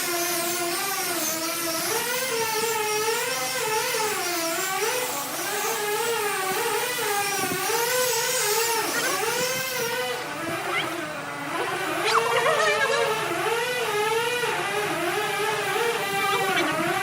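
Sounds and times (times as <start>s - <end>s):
power tool motor whining: 0.0s - 17.0s.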